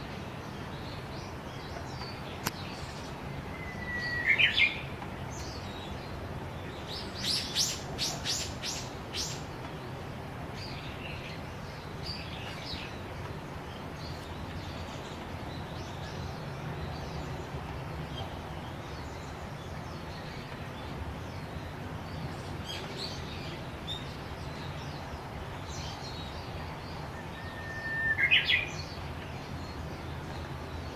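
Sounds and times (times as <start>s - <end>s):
bush warbler singing: 0.0s - 30.9s.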